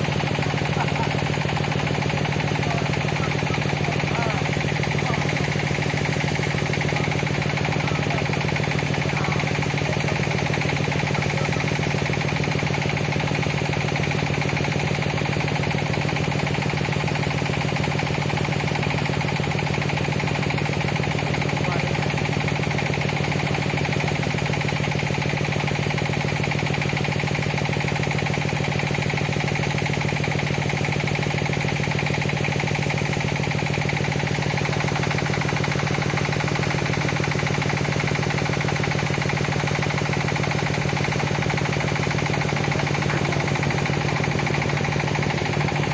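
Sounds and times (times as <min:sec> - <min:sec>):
excavator diesel engine droning: 0:00.0 - 0:45.9.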